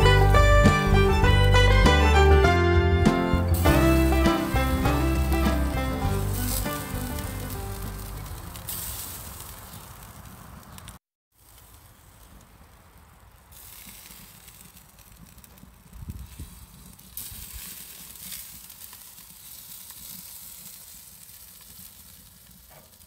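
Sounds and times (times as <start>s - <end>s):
fire crackling: 0.0s - 23.0s
meat sizzling on a grill: 3.5s - 23.0s.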